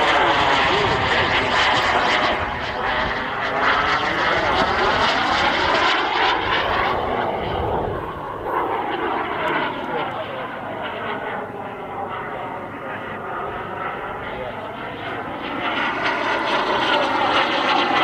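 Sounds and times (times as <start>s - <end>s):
model jet turbine rushing: 0.0s - 18.0s.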